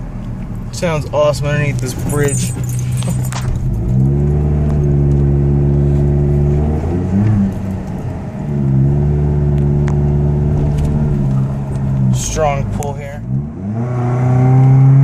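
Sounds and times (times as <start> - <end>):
pickup exhaust deep drone: 0.0 - 15.0.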